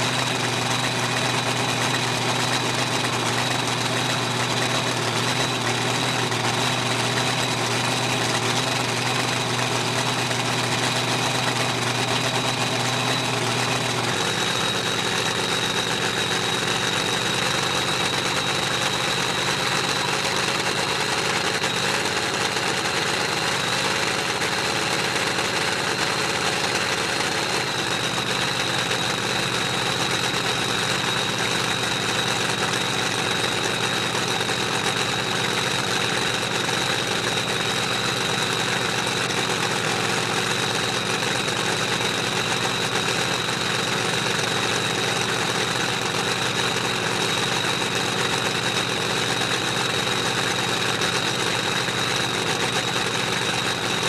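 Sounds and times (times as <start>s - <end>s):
racing engine idling: 0.0s - 54.0s.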